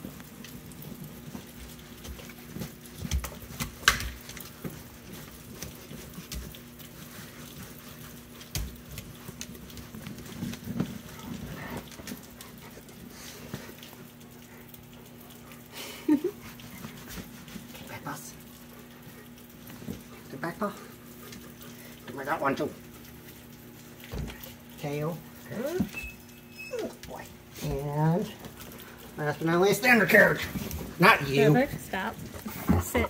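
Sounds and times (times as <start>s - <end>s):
towel rubbing wet dog: 0.0s - 33.0s.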